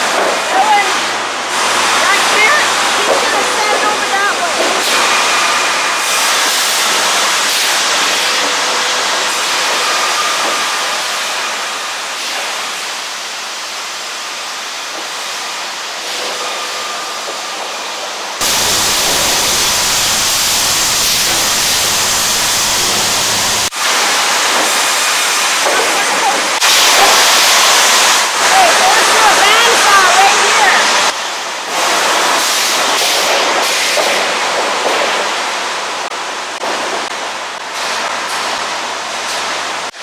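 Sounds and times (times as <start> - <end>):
sawmill machinery running: 0.0 - 40.0.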